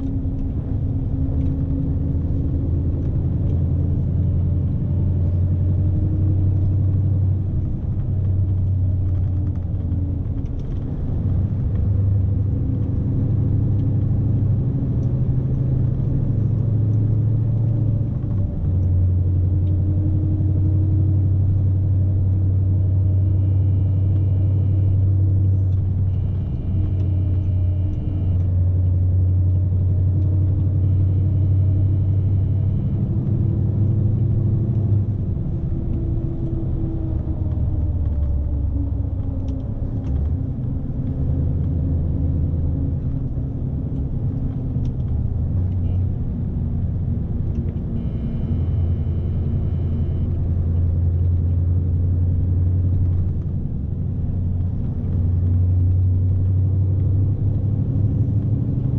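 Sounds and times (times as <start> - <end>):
truck diesel engine rumble: 0.0 - 58.9.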